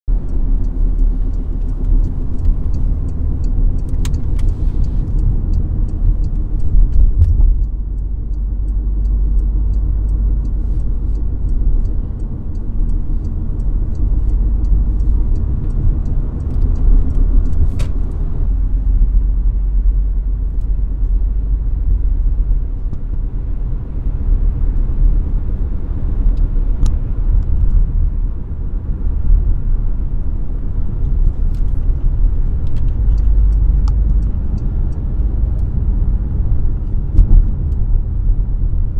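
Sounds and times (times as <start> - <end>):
low road rumble: 0.1 - 38.9.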